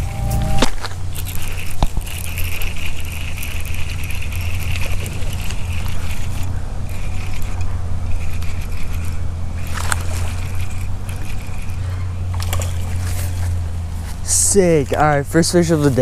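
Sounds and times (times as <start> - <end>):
low rumble: 0.0 - 15.6
fishing reel whirring: 0.0 - 16.0.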